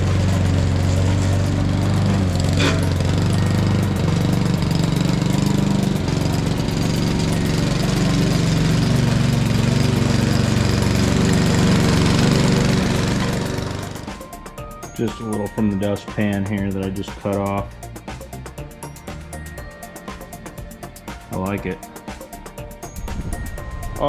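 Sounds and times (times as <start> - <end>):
lawn mower engine droning: 0.0 - 24.0.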